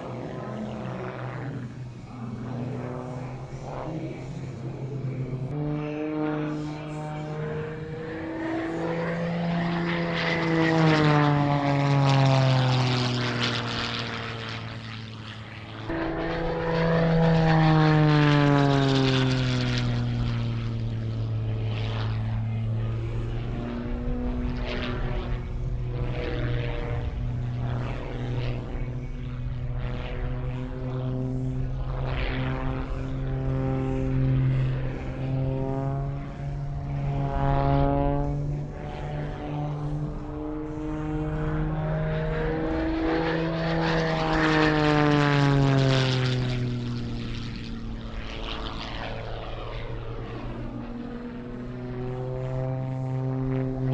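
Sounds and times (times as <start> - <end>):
propeller plane engine: 0.0 - 53.9.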